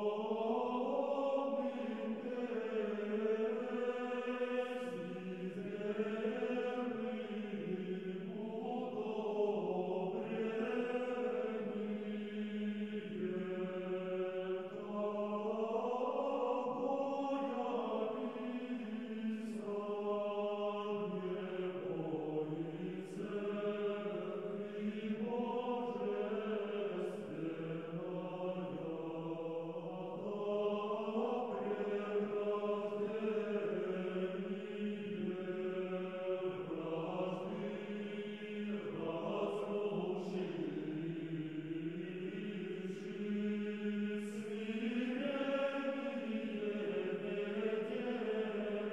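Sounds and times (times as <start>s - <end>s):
slow choral chant: 0.0s - 48.9s.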